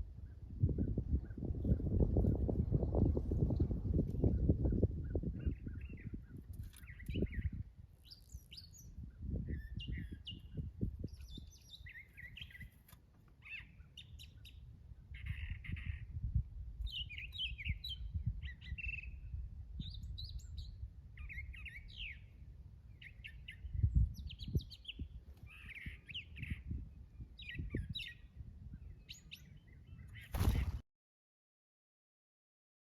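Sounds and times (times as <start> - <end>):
birds chirping and twittering: 0.2 - 30.8.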